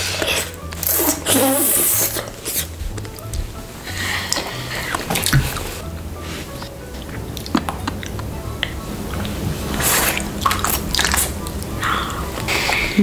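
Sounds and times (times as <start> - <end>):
child chewing candy: 0.0 - 13.0
quiet background music: 0.0 - 13.0.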